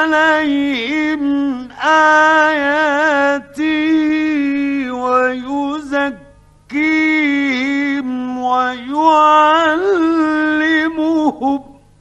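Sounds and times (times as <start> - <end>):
man chanting melodically: 0.0 - 11.8.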